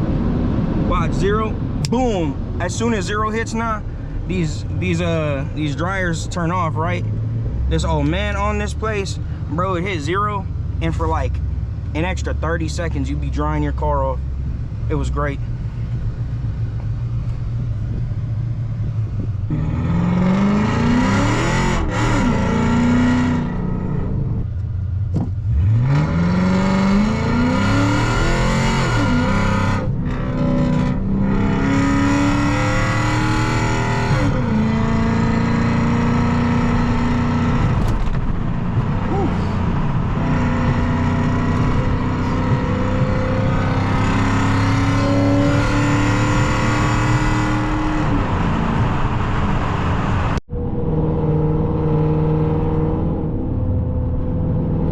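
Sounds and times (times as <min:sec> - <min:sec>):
car engine accelerating through gears: 0:10.4 - 0:54.9.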